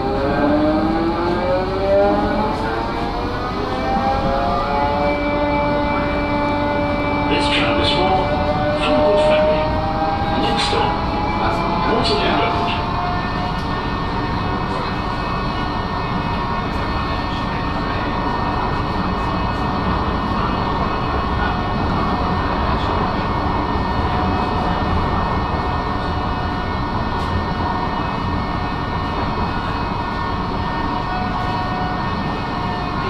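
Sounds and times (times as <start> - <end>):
tram wheels rumbling on rail: 0.0 - 33.0.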